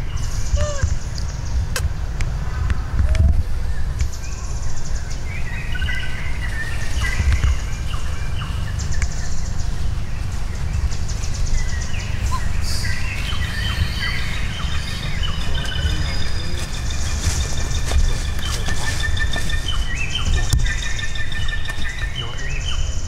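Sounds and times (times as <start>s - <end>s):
birds chirping and calling: 0.0s - 23.0s
steady low rumble: 0.0s - 23.0s.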